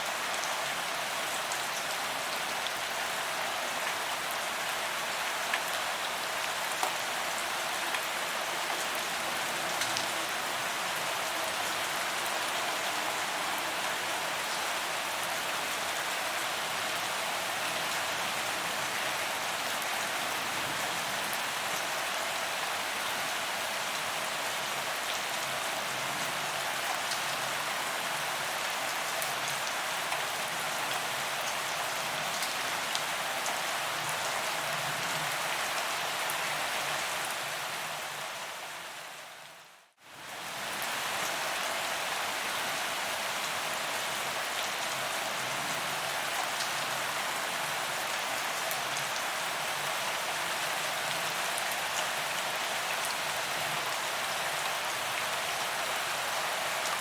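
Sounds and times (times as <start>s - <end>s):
rain on paved ground: 0.0s - 57.0s.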